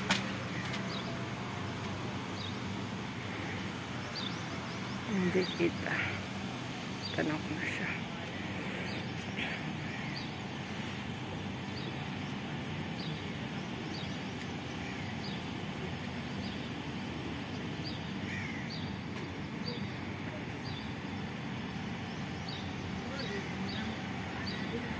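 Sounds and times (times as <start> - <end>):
birds chirping: 0.0 - 24.9
street traffic hum: 0.0 - 24.9.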